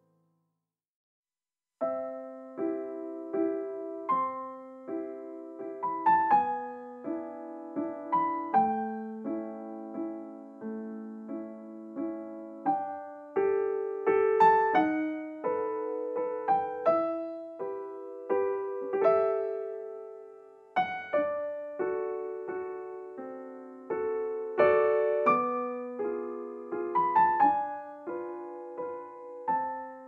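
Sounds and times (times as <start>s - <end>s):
slow piano music: 1.8s - 30.0s.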